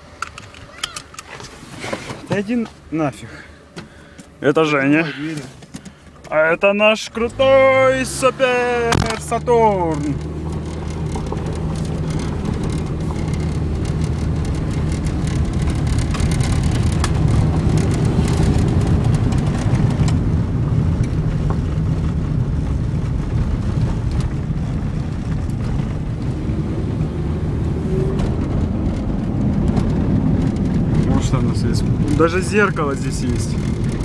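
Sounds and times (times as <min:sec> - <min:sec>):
car engine and tyres rumbling: 0:00.0 - 0:34.0.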